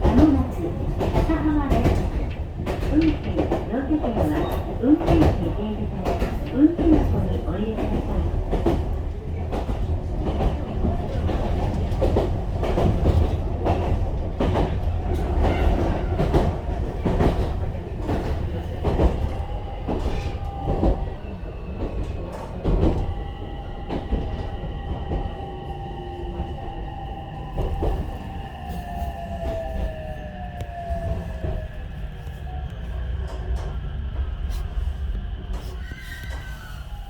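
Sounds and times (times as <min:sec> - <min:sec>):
train rumble: 0:00.0 - 0:37.0.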